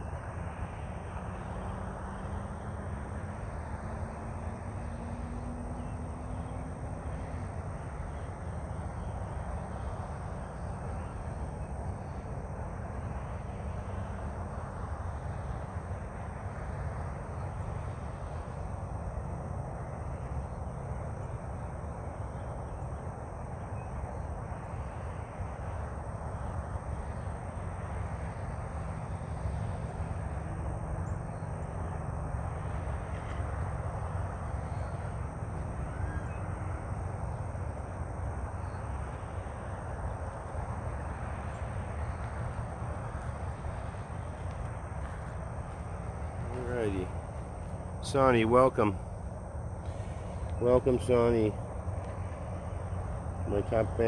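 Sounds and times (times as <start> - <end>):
faint rising hum: 0.0 - 54.0
low rumble with hiss: 0.0 - 54.0.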